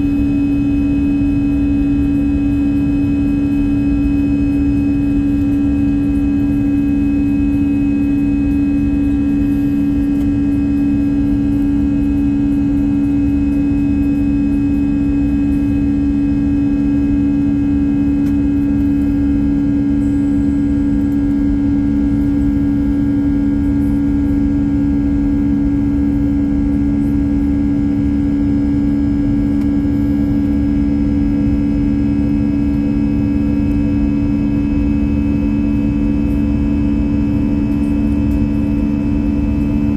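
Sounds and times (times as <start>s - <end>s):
airplane cabin engine drone: 0.0s - 39.9s
low hum tones: 0.0s - 39.9s.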